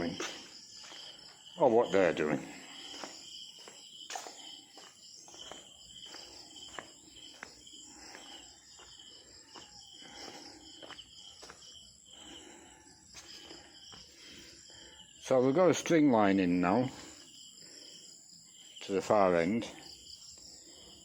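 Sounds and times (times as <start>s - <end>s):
insects chirping in pulses: 0.0s - 21.0s.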